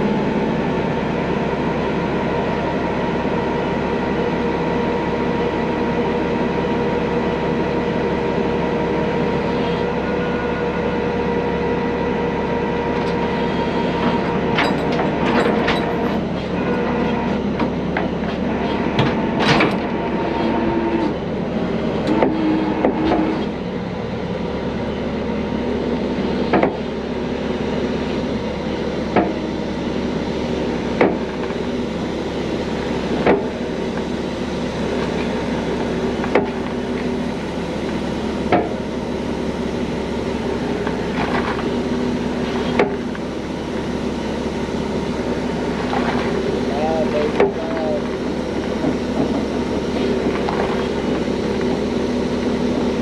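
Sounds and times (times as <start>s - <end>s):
diesel truck engine under load: 0.0s - 53.0s.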